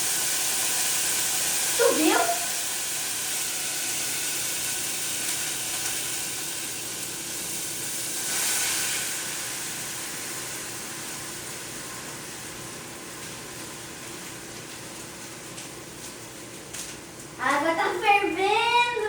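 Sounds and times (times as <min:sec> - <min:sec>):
water sizzling in a frying pan: 0:00.0 - 0:16.6.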